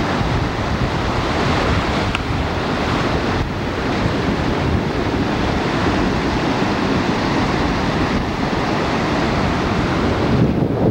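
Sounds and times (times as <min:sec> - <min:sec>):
ocean surf breaking: 0:00.0 - 0:10.9
wind buffeting microphone: 0:00.0 - 0:10.9.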